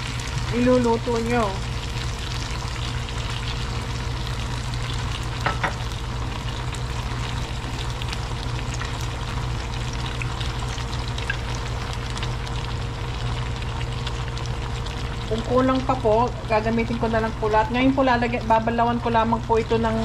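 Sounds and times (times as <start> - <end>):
sauce sizzling in a skillet: 0.0 - 20.0.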